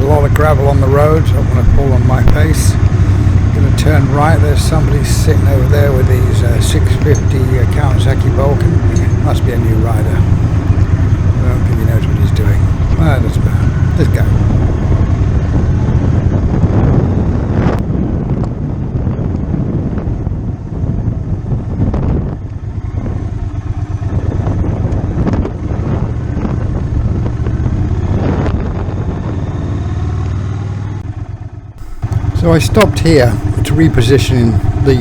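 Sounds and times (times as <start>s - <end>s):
motorcycle engine running: 0.0s - 16.3s, 22.3s - 35.0s
wind buffeting microphone: 0.0s - 29.7s, 31.8s - 35.0s.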